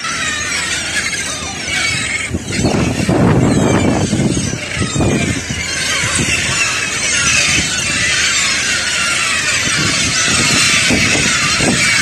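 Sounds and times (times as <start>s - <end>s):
flock of gulls calling: 0.0s - 12.0s.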